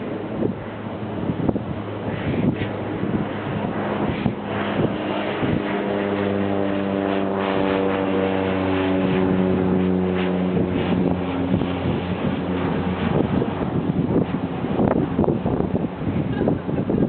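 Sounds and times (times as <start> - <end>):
boat engine droning: 0.0 - 17.0
wind on microphone: 0.0 - 17.0.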